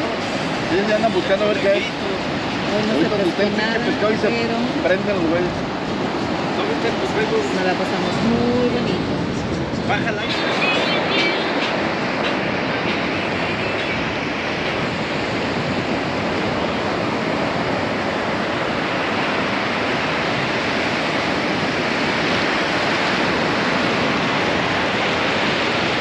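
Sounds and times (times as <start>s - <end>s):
ocean surf breaking on sand: 0.0s - 26.0s.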